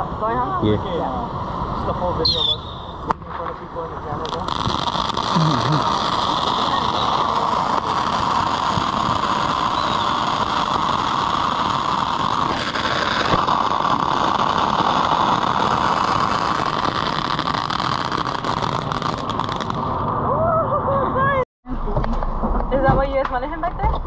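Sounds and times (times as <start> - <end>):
firework fountain hissing: 0.0 - 21.4.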